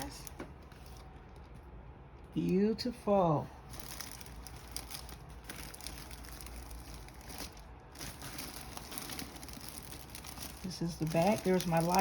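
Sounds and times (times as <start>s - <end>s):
wrapping crinkling: 0.0s - 2.3s, 3.6s - 12.0s.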